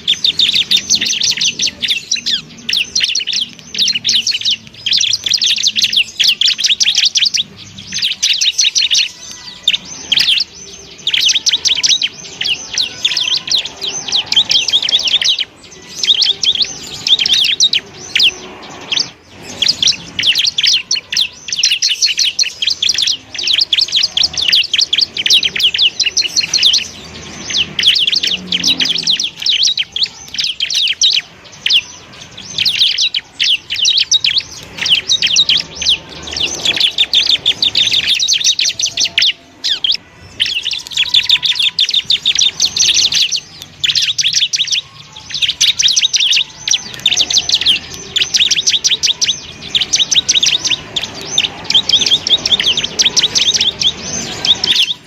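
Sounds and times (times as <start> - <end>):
bird high-pitched trilling song: 0.0 - 55.0.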